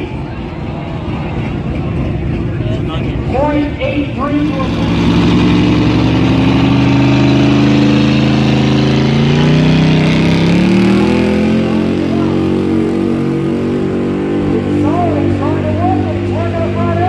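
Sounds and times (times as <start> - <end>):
loud vehicle engine running: 0.0 - 17.0.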